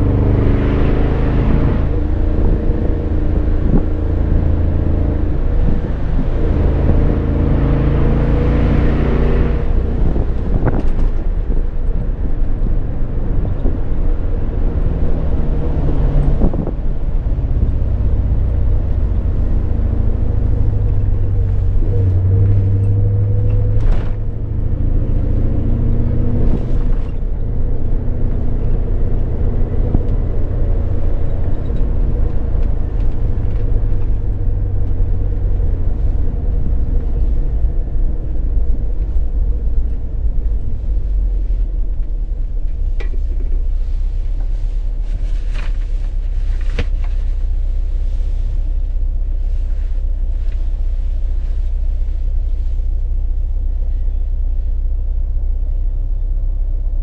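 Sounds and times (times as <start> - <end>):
car engine drone from inside: 0.0 - 57.0
tyre and road noise: 0.0 - 57.0.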